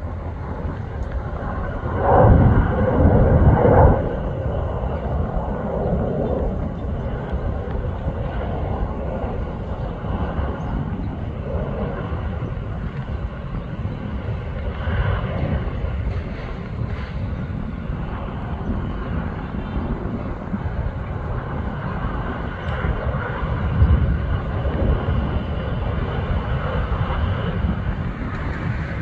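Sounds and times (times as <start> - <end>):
distant fighter jet rushing: 0.0 - 29.0.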